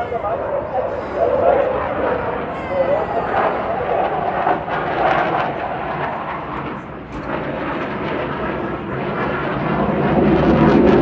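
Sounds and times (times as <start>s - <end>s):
crackling jet engine noise: 0.0s - 11.0s.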